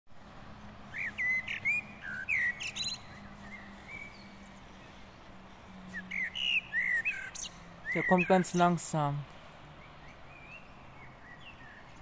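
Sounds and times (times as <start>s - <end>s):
songbirds chirping: 0.1s - 12.0s.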